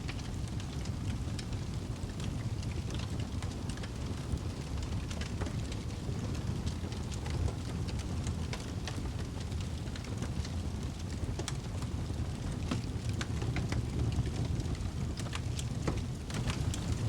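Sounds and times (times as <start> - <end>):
flames rumbling: 0.0 - 17.0
wood crackling and popping: 0.1 - 17.0.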